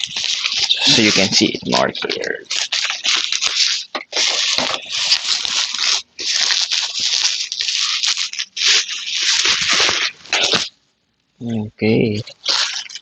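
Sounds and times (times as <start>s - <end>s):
plastic packaging crinkling: 0.0s - 10.8s, 12.2s - 13.0s.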